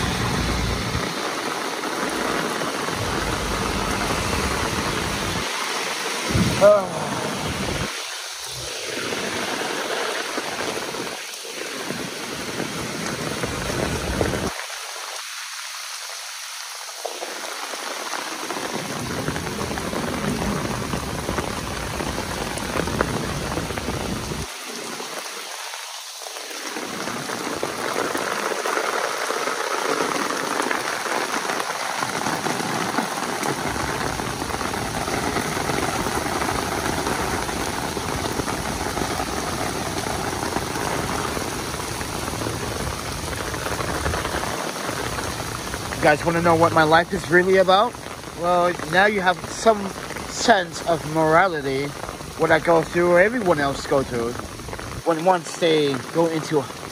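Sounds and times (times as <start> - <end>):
heavy rain splashing: 0.0 - 56.9.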